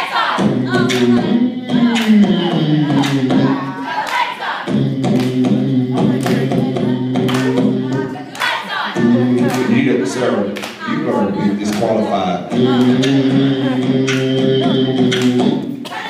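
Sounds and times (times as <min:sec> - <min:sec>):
group singing a cappella: 0:00.0 - 0:16.0.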